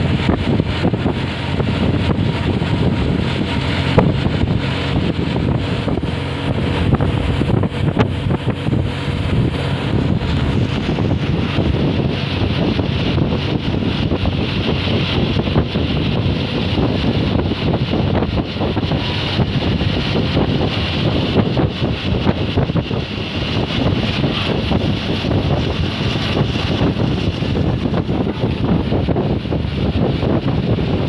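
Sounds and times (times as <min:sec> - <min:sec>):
bus engine and road noise: 0:00.0 - 0:31.0
wind buffeting microphone: 0:00.0 - 0:31.0.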